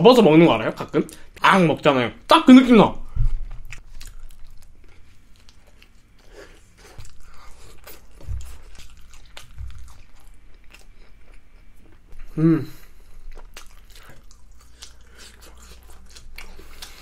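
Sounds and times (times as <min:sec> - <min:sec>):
person chewing: 0:03.2 - 0:17.0.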